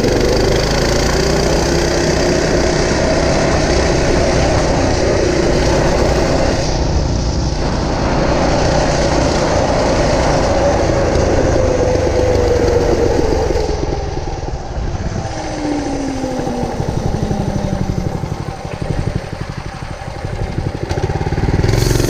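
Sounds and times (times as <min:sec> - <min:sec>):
minibike engine running: 0:00.0 - 0:22.0.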